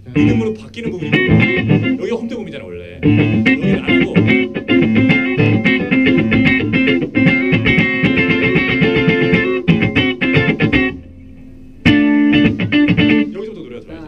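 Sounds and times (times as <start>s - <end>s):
electric guitar held chord: 0.0s - 2.2s, 3.0s - 13.3s
electric guitar quick picked notes: 0.0s - 2.2s, 3.0s - 13.4s.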